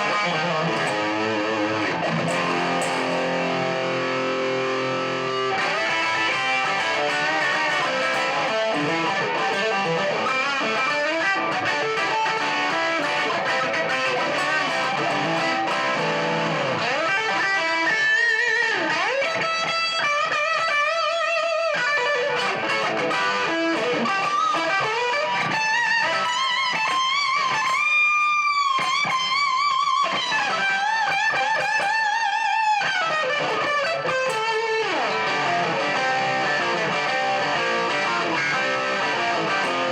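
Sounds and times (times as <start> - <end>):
distorted electric guitar solo: 0.0 - 39.9.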